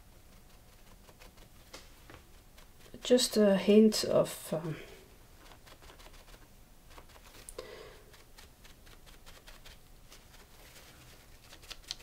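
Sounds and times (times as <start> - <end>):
paper towel rustling and scrubbing: 0.0 - 3.4, 5.4 - 12.0.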